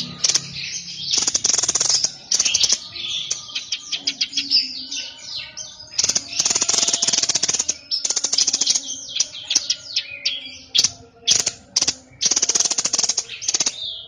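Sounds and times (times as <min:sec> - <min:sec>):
songbird singing buzzy trills: 0:00.0 - 0:14.0.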